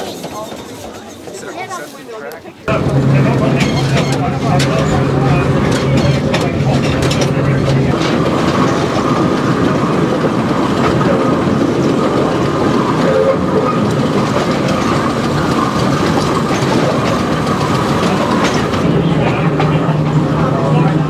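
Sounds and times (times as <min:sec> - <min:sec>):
railcar wheels clattering on rails: 0:00.0 - 0:01.9, 0:02.7 - 0:21.0.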